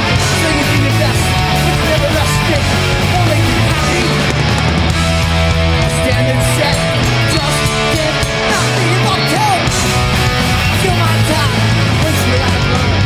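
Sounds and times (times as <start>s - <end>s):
punk band playing live: 0.0s - 13.0s.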